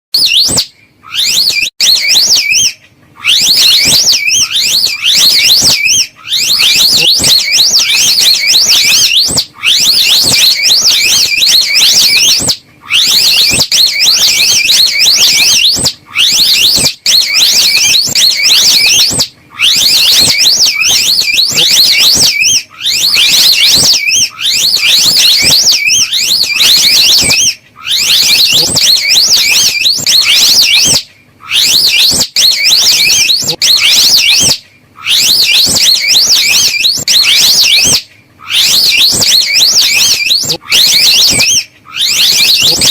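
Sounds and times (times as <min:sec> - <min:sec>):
high-pitched warbling trill: 0:00.2 - 0:42.9.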